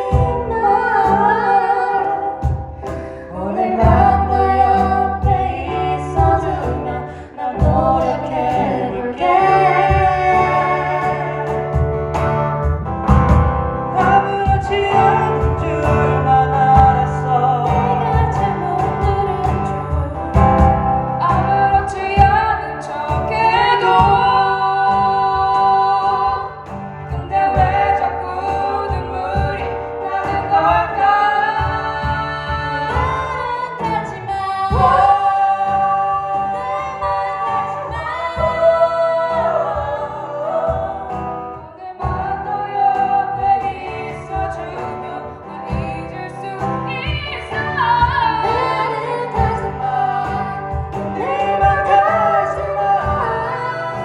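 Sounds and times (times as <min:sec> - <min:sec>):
band accompaniment: 0:00.0 - 0:54.0
person singing a pop ballad: 0:00.0 - 0:54.0.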